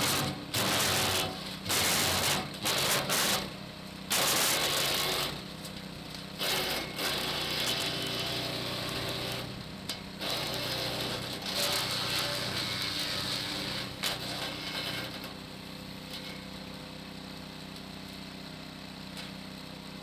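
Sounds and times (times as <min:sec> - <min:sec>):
branch shredder motor hum: 0:00.0 - 0:20.0.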